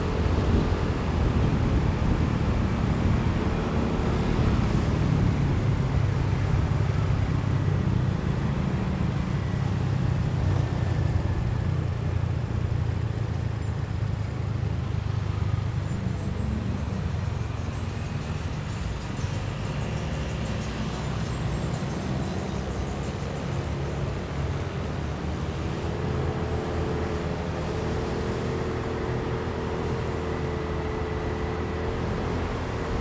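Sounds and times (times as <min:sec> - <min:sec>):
motorcycle engine and road rumble: 0:00.0 - 0:33.0.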